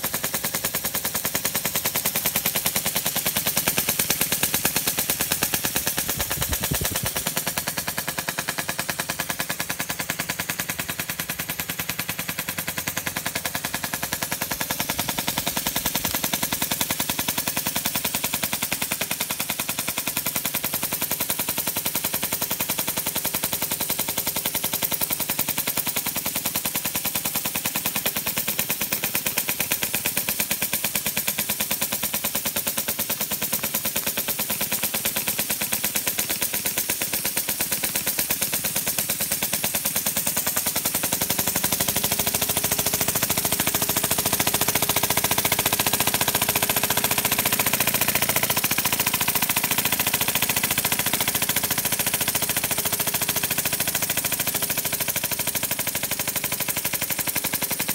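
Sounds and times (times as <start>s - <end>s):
model steam engine chuffing: 0.0s - 57.9s.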